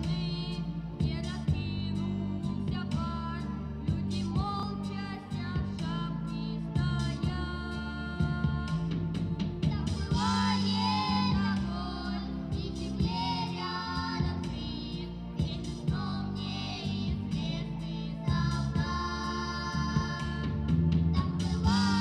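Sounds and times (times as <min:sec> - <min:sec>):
instrumental accompaniment: 0:00.0 - 0:22.0.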